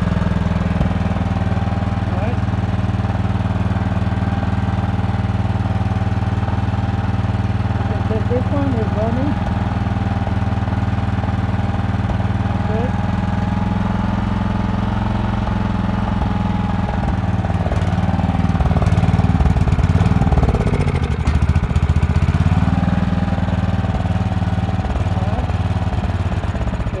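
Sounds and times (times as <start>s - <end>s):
generator engine running: 0.0s - 27.0s.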